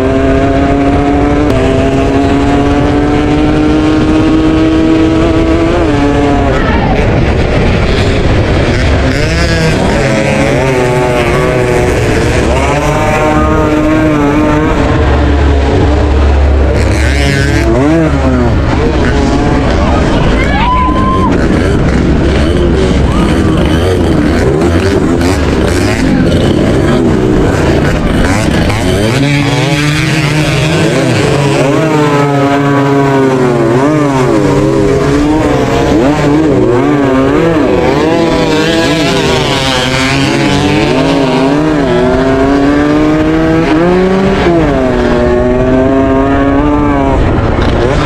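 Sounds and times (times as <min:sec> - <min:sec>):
racing motorcycle engines revving: 0:00.0 - 0:48.0.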